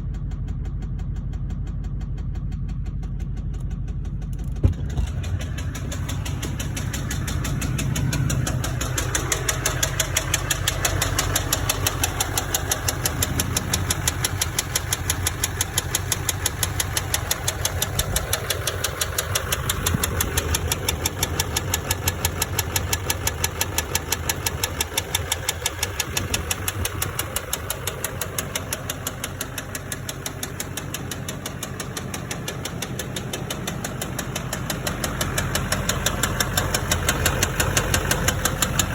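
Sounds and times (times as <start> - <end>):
diesel engine running: 0.0 - 38.9
engine rod knock: 0.1 - 38.9.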